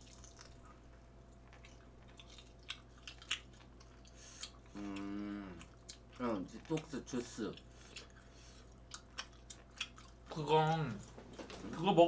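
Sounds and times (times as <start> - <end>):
soft chewing with mouth clicks: 0.0 - 11.8.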